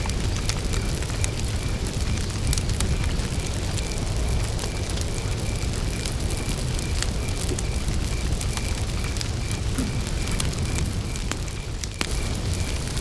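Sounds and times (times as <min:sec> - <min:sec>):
campfire crackling and popping: 0:00.0 - 0:13.0
cricket chirping: 0:00.0 - 0:13.0.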